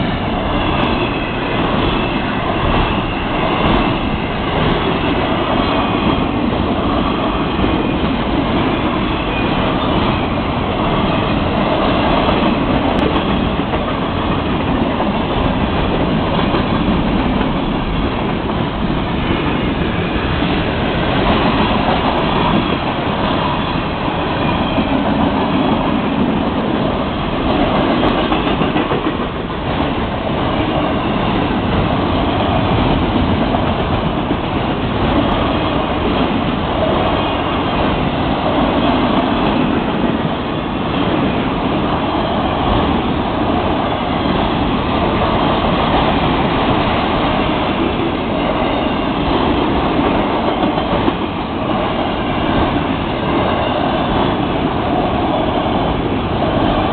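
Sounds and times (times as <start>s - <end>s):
steel wheels running on rails: 0.0s - 56.9s.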